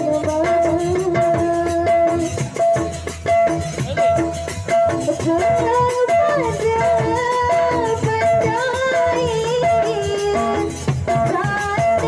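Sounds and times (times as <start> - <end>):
woman singing into microphone: 0.0 - 2.6, 4.7 - 12.0
drum and rattle percussion: 0.0 - 12.0.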